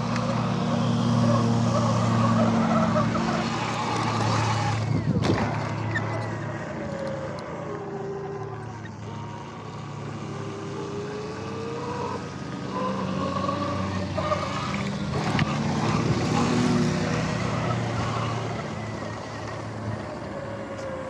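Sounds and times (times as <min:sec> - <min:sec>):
electric motor whine: 0:00.0 - 0:21.0
wind and tyre noise: 0:00.0 - 0:21.0.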